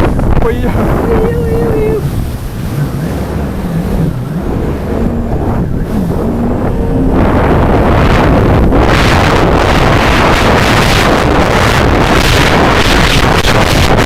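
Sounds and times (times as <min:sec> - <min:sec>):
jet ski engine running: 0:00.0 - 0:14.0
wind buffeting on microphone: 0:00.0 - 0:14.0
loud rushing noise: 0:02.0 - 0:14.0.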